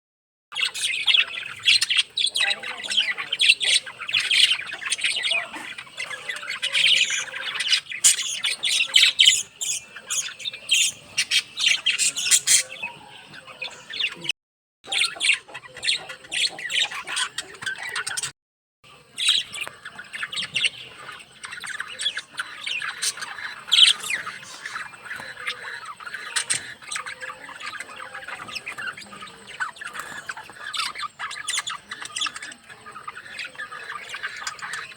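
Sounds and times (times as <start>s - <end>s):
birds chirping and squawking: 0.5s - 18.3s, 18.9s - 34.9s.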